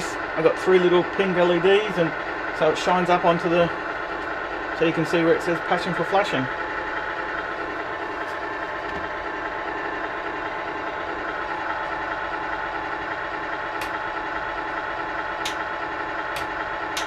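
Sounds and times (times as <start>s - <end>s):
simulated truck engine idling: 0.0s - 17.0s.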